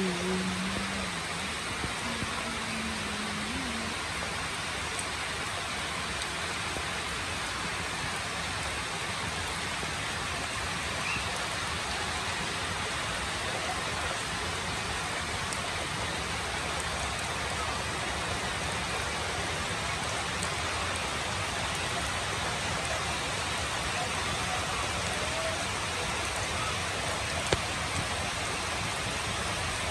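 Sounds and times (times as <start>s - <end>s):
steady rain: 0.0s - 29.9s.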